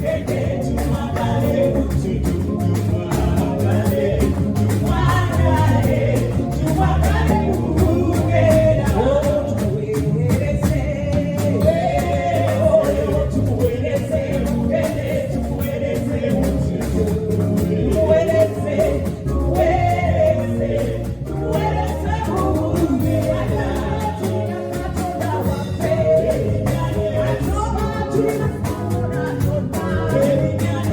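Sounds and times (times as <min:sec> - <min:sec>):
band with steady drum beat: 0:00.0 - 0:30.9
singers leading a song: 0:00.0 - 0:30.9.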